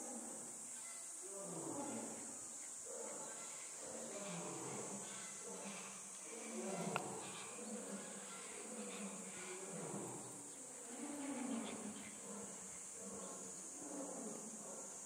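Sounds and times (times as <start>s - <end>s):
flying insects buzzing close by: 0.0s - 15.0s
high drone of insects: 0.0s - 15.0s.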